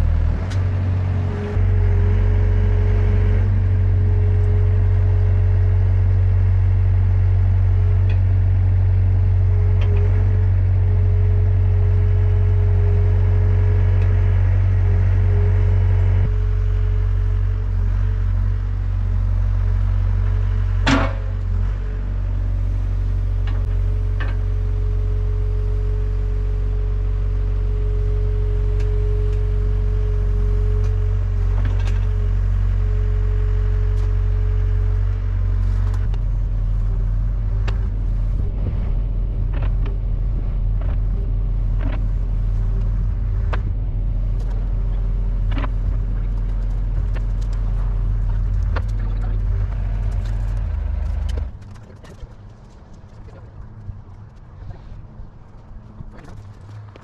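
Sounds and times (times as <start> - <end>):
excavator diesel engine running: 0.0 - 57.0
steady whine: 0.0 - 57.0.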